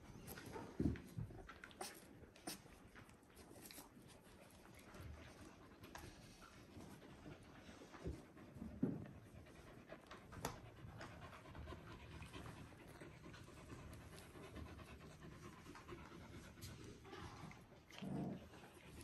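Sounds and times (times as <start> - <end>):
puppies breathing and sniffing: 0.0 - 19.0.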